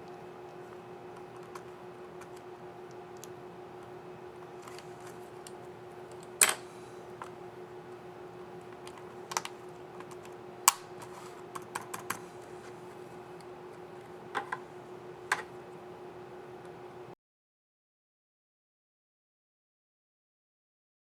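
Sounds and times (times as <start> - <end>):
faint steady hum: 0.0 - 17.2.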